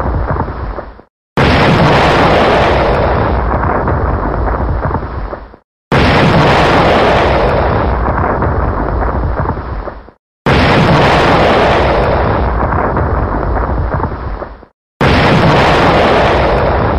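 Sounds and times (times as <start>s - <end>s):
explosion boom with rumbling tail: 1.4s - 16.9s.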